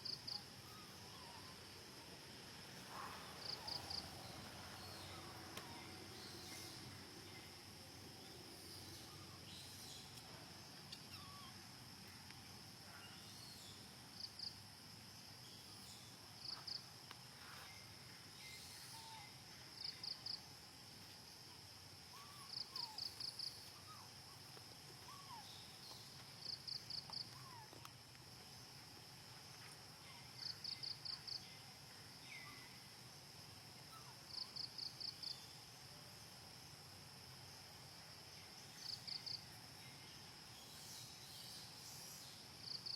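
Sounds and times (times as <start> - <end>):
insects chirping: 0.0 - 42.9.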